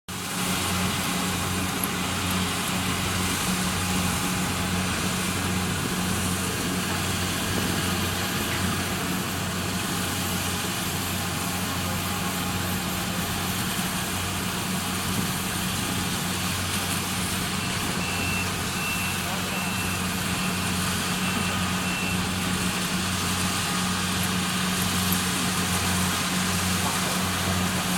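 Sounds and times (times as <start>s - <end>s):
diesel engine running: 0.1s - 27.9s.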